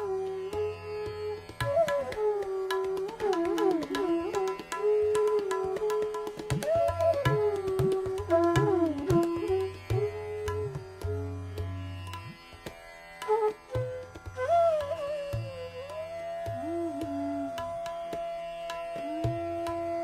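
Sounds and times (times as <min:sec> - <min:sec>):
bamboo flute melody: 0:00.0 - 0:12.1, 0:13.2 - 0:20.0
tabla strokes: 0:00.0 - 0:20.0.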